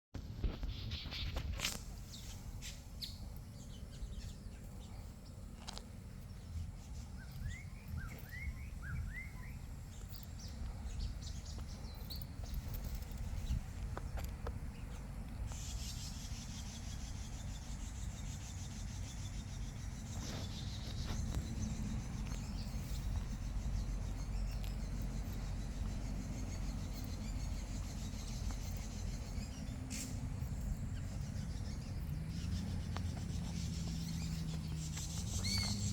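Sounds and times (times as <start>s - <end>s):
steady low rumble: 0.2s - 35.9s
wild birds chirping: 0.4s - 35.9s.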